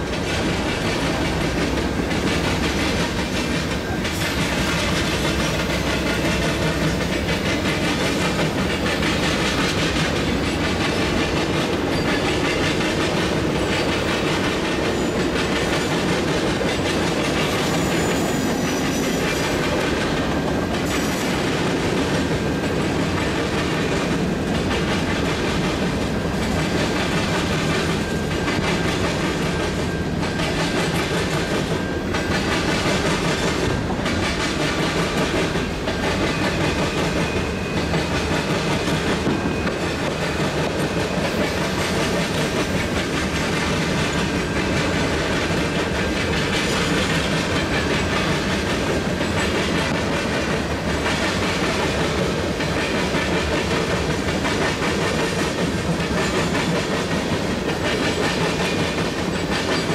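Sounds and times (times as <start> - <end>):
wheels clicking over rail joints: 0.0 - 59.9.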